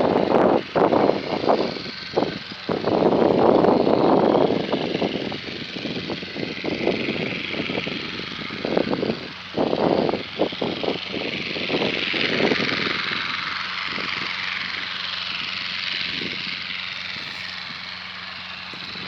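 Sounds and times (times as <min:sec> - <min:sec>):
propeller engine drone: 0:00.0 - 0:19.0
wind buffeting microphone: 0:00.0 - 0:19.0.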